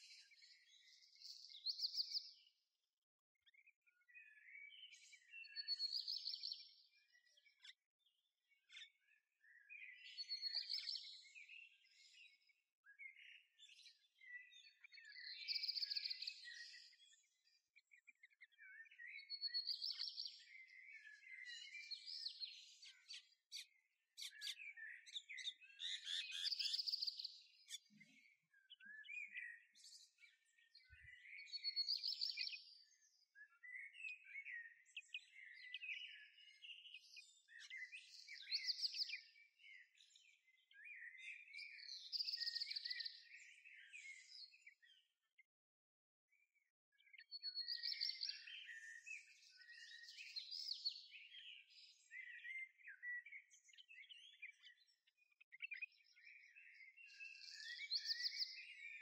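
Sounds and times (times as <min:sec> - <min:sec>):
songbird song: 0:00.0 - 0:59.0.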